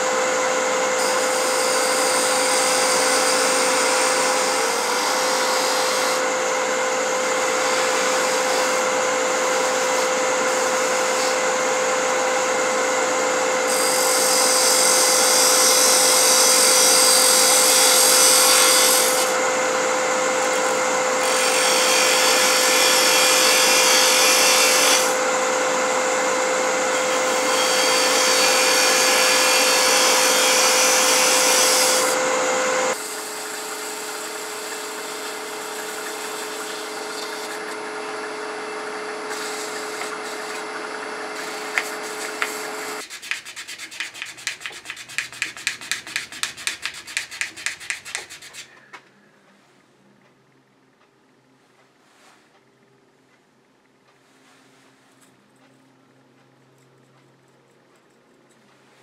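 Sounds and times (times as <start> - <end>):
wood lathe humming: 0.0 - 48.6.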